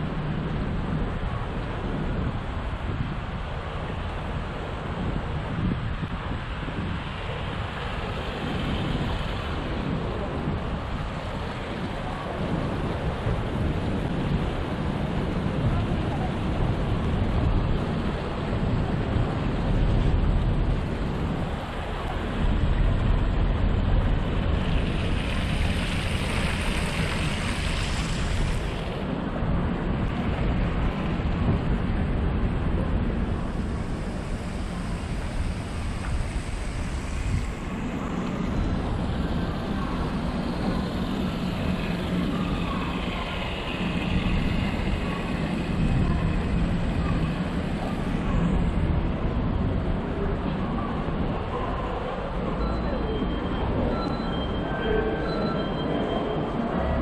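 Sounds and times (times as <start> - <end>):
wind on microphone: 0.0 - 57.0
vehicles passing: 6.2 - 54.0.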